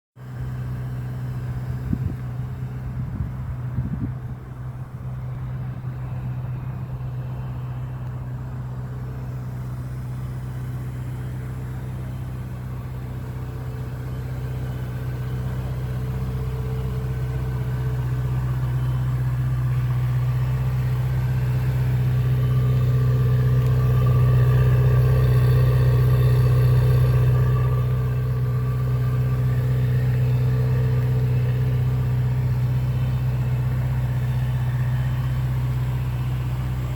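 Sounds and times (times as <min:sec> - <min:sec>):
car engine running steadily: 0:00.2 - 0:36.9.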